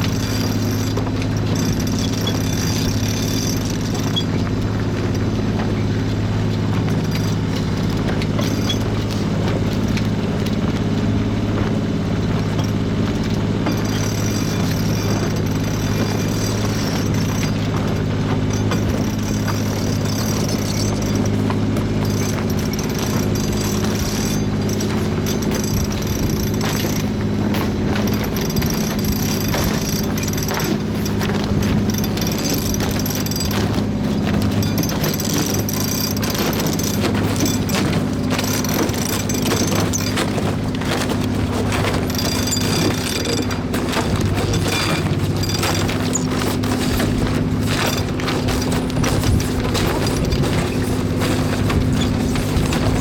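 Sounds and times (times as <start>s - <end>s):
boat engine droning: 0.0s - 53.0s.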